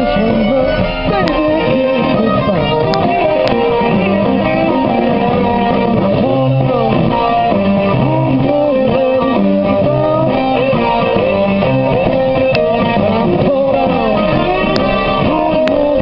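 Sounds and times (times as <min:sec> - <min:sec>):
electric guitar blues lead: 0:00.0 - 0:16.0.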